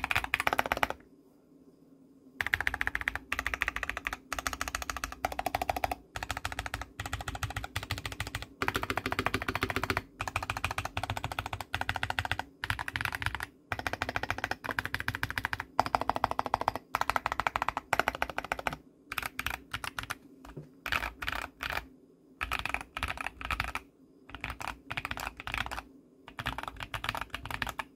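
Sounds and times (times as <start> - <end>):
mechanical keyboard typing: 0.0 - 1.0, 2.4 - 27.9.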